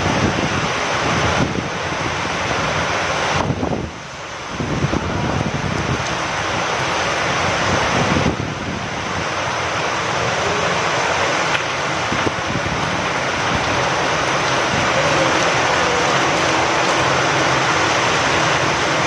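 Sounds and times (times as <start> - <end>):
rain falling with wind: 0.0 - 19.0.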